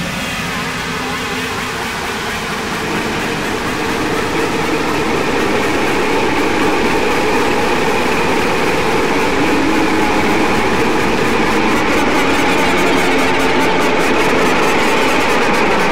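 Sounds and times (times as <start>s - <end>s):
rumbling electronic noise drone: 0.0s - 15.9s.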